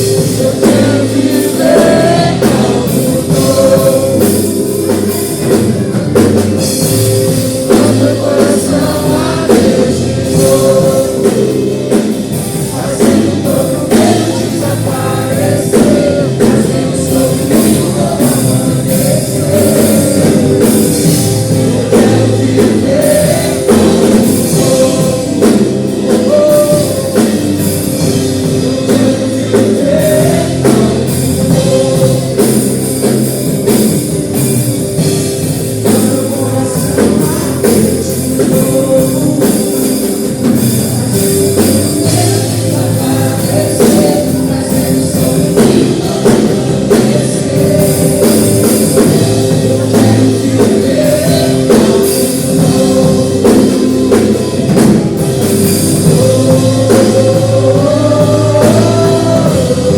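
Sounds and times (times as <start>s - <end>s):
drum kit: 0.0s - 59.9s
guitar: 0.0s - 59.9s
worship singing: 0.0s - 59.9s.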